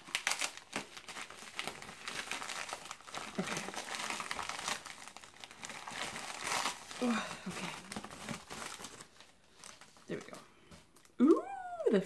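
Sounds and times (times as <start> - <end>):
envelope ripping: 0.0 - 10.3
envelope crinkling: 0.0 - 11.2.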